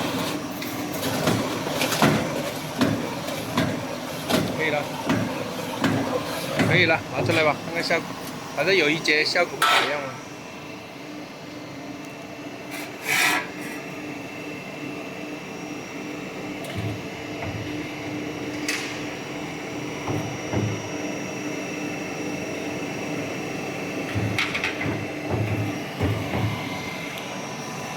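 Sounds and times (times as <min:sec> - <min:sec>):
hydraulic machine humming: 0:00.0 - 0:27.9.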